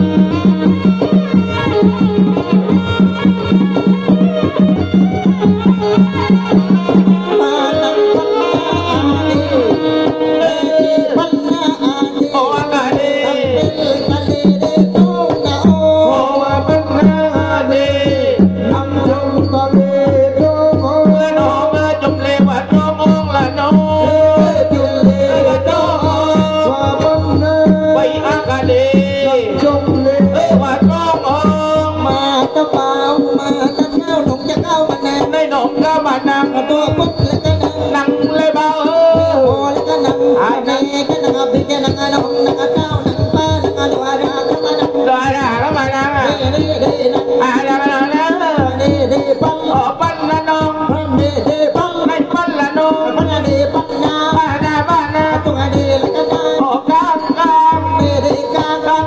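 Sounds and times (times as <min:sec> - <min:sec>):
fast driving drumming: 0:00.0 - 0:59.0.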